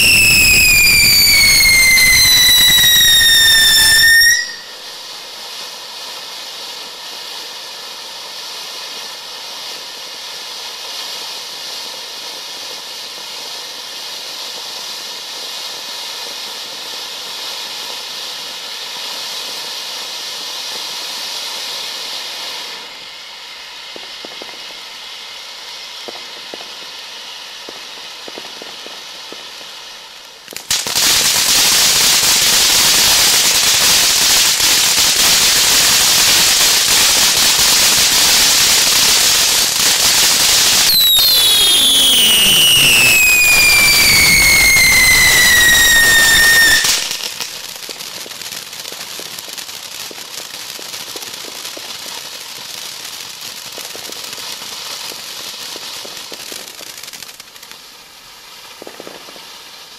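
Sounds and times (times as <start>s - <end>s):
fireworks fountain hissing: 0.0s - 59.9s.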